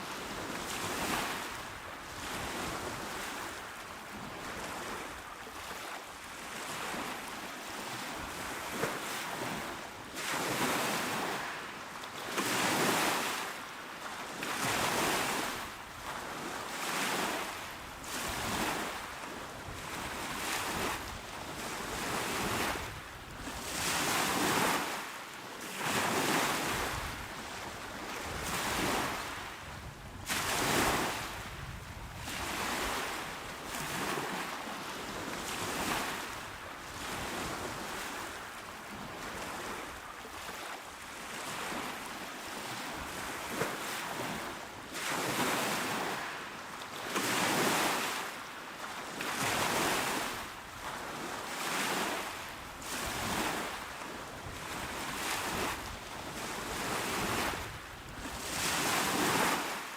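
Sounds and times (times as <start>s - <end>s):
small waves washing onto shore: 0.0s - 59.9s.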